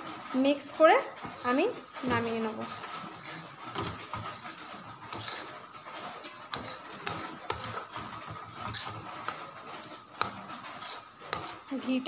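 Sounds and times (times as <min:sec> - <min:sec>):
metal spatula scraping pan: 0:01.2 - 0:12.0.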